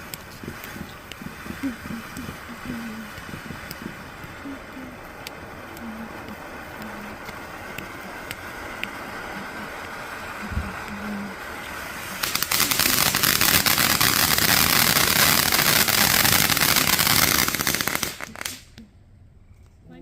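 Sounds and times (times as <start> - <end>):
firework fizzing and crackling: 0.0 - 18.8.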